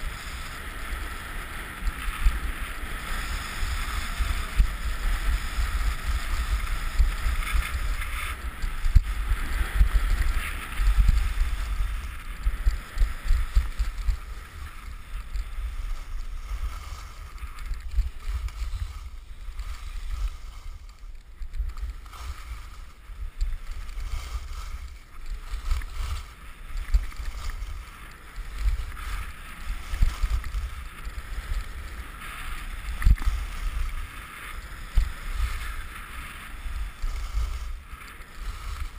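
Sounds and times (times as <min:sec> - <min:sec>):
skis hissing over packed snow: 0:00.0 - 0:38.9
wind buffeting microphone: 0:00.0 - 0:38.9.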